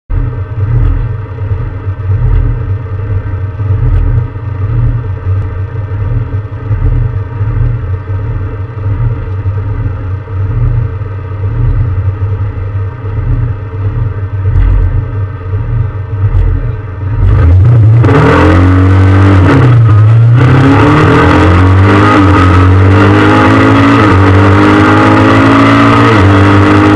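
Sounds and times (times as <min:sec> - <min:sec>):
car engine deep rumble: 0:00.1 - 0:26.9.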